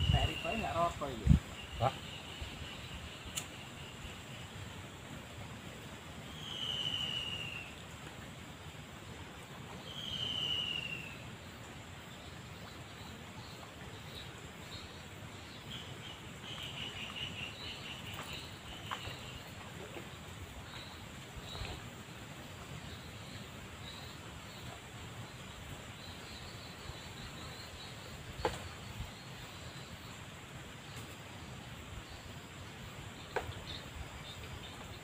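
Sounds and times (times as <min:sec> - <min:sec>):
background hiss: 0:00.0 - 0:35.0.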